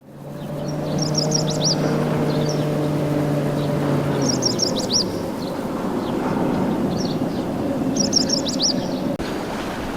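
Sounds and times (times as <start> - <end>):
low engine hum: 0.0 - 9.9
songbird chattering song: 0.2 - 9.2.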